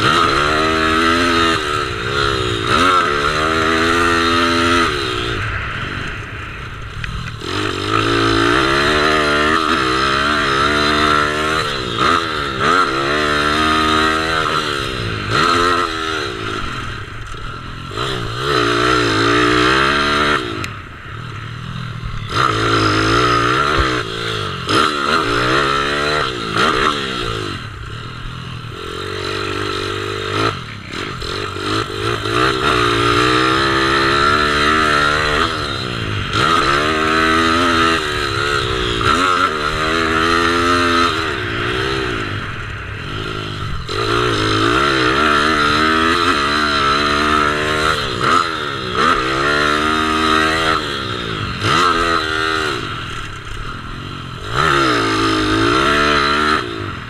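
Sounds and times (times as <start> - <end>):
mini bike engine revving: 0.0 - 57.0.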